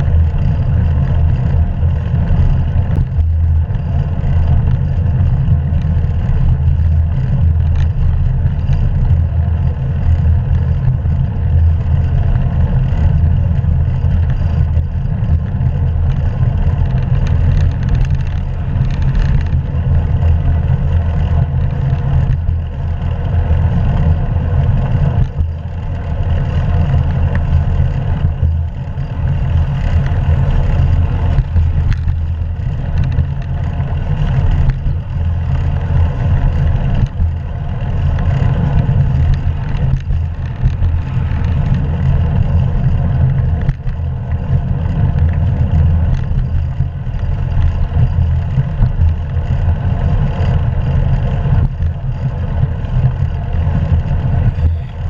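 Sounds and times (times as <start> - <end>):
bicycle road noise: 0.0 - 55.0
wind rumble on microphone: 0.0 - 55.0.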